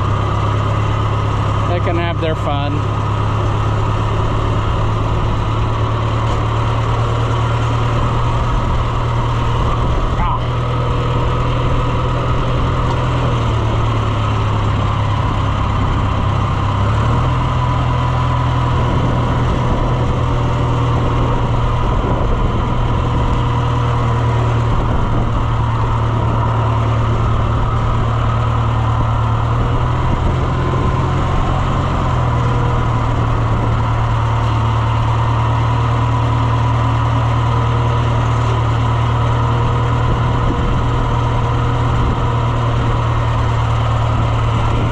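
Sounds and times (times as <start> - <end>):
engine running with whine: 0.0 - 44.9.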